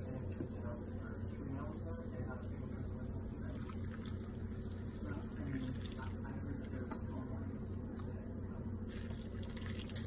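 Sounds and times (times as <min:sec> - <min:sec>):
steady low hum: 0:00.0 - 0:10.0
broth poured into a bowl: 0:01.2 - 0:10.0.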